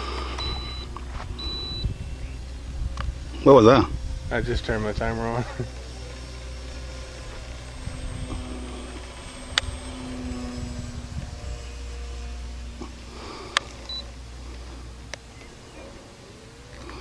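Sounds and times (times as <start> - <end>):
distant model airplane drone: 0.0 - 17.0
low rumble: 0.0 - 17.0.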